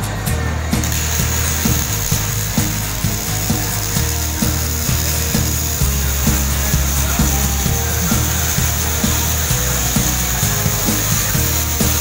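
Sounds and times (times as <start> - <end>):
background music with bass line: 0.0 - 12.0
steady high hiss: 0.7 - 12.0.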